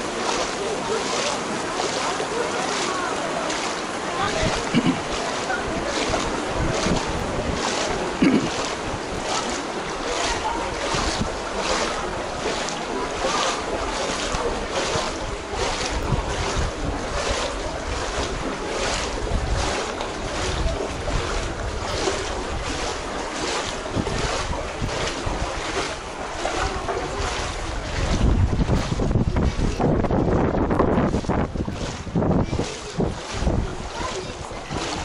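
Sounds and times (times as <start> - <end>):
footsteps splashing through water: 0.0 - 35.0.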